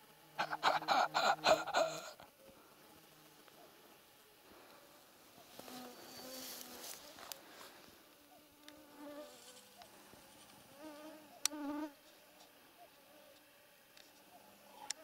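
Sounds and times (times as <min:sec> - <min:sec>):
flying insects buzzing: 0:00.0 - 0:15.0.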